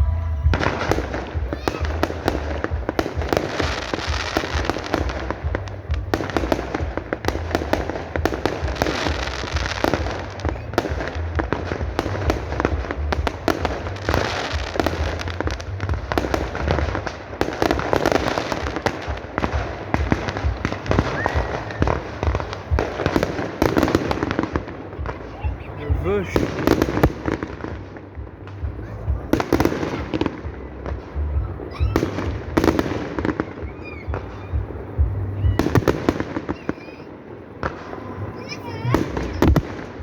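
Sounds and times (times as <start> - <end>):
music playing: 0.0 - 36.5
fireworks bangs and crackling: 0.0 - 40.0.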